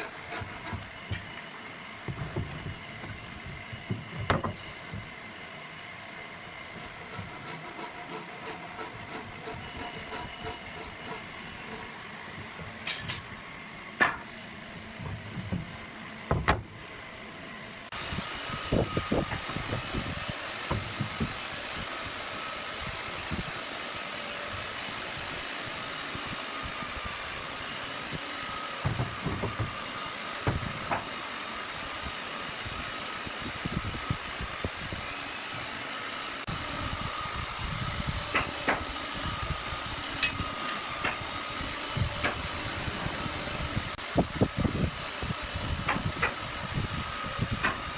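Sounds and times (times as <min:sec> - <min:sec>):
machine motor humming with high whine: 0:00.0 - 0:47.9.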